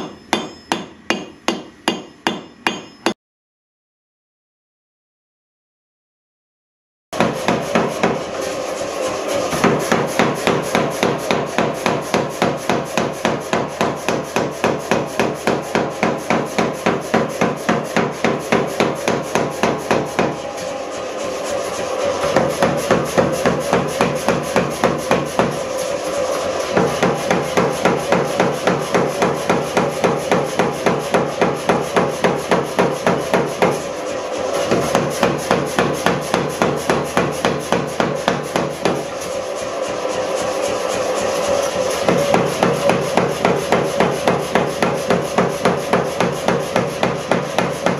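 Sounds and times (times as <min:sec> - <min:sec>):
power hammer pounding steel: 0:00.0 - 0:03.2, 0:07.2 - 0:47.9.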